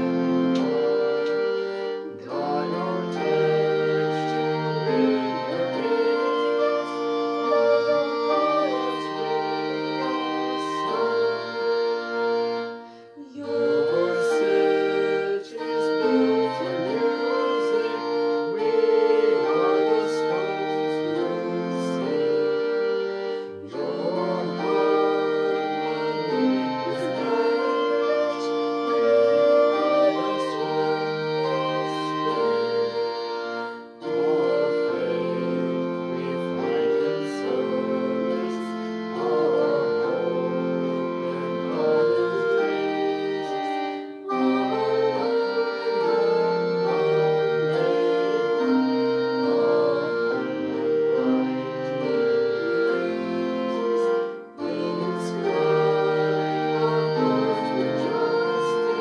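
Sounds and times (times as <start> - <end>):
hymn on organ-like keyboard: 0.0 - 59.0
woman singing: 2.1 - 12.5, 13.2 - 22.8, 23.7 - 33.4, 34.1 - 51.4, 52.0 - 59.0.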